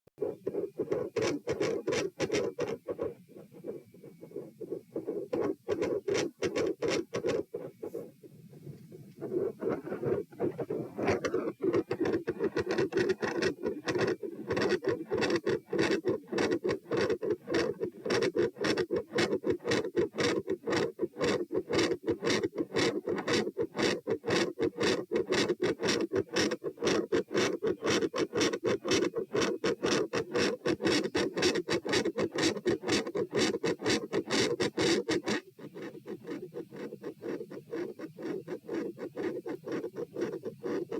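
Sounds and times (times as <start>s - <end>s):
scratchy stethoscope contact noise: 0.2s - 40.9s.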